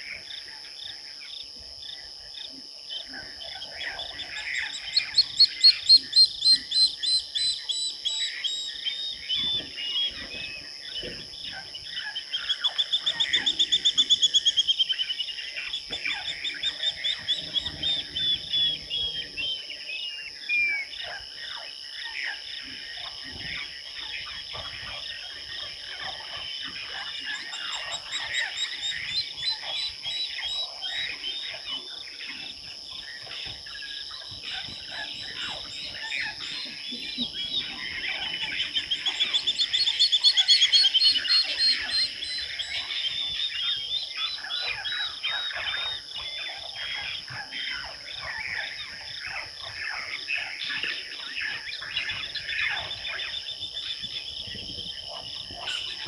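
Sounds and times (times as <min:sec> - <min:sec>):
insect drone: 0:00.0 - 0:56.0
birds calling: 0:02.9 - 0:56.0.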